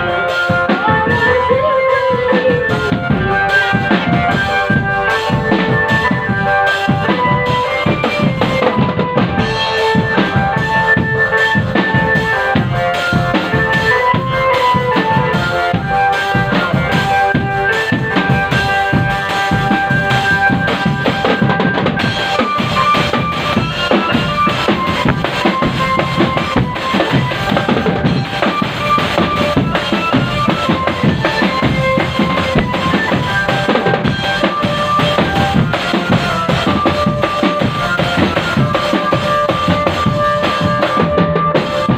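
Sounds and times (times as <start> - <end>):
melody of held notes: 0.0 - 41.9
snare and bass drum rhythm: 0.0 - 41.9.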